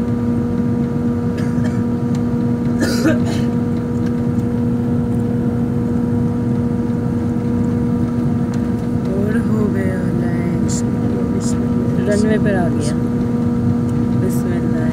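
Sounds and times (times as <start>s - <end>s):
steady low hum: 0.0s - 14.9s
jet engine and airflow rush: 1.9s - 14.9s.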